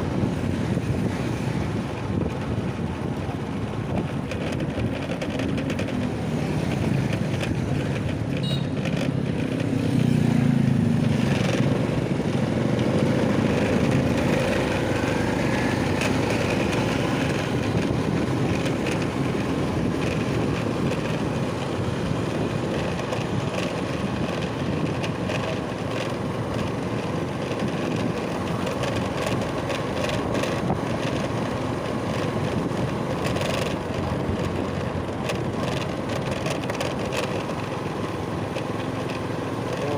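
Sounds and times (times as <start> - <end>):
wind noise on microphone: 0.0 - 39.0
vehicle engine running: 0.0 - 39.9.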